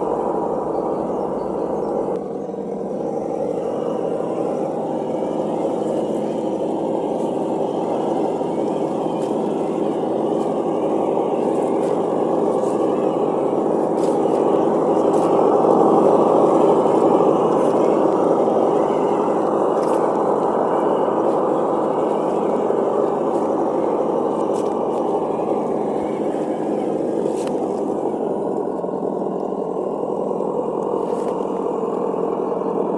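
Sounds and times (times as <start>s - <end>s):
simulated engine sound from speaker: 0.0s - 32.9s.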